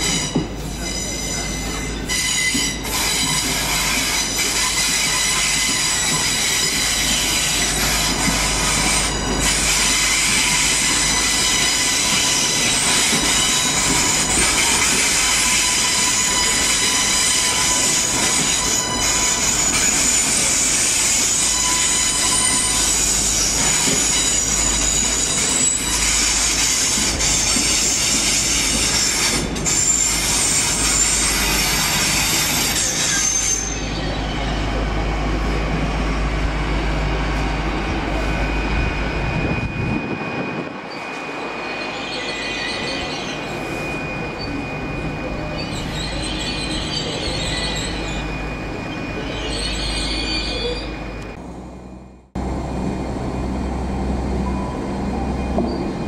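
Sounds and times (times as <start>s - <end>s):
train wheels squealing on rails: 0.0s - 52.2s, 53.7s - 56.0s
low train rumble: 0.0s - 56.0s.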